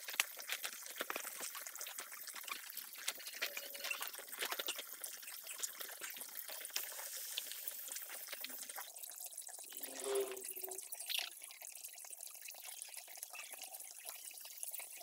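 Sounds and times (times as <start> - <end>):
hose water pouring into pond: 0.0 - 15.0.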